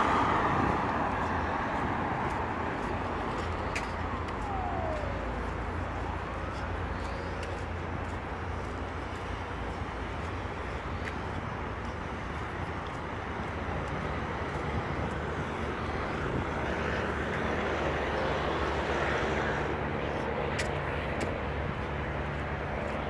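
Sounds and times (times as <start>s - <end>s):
passing vehicle engine: 0.0s - 23.0s.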